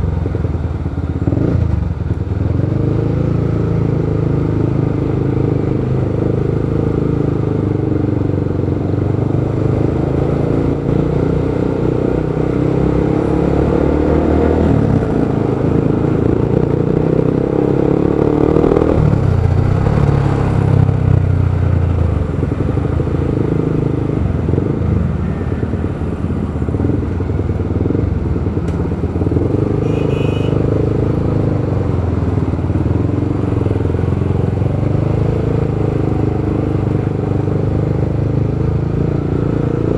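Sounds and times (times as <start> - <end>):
motorcycle engine: 0.0 - 39.9
road and wind noise: 0.0 - 39.9.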